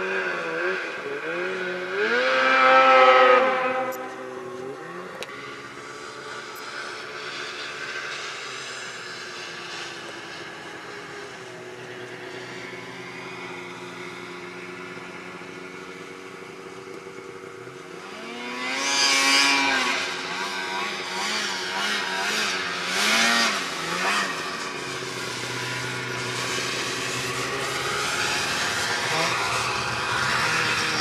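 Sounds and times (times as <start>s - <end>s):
distant snowmobile engine drone: 0.0s - 31.0s
snowmobile engine revving: 0.0s - 31.0s.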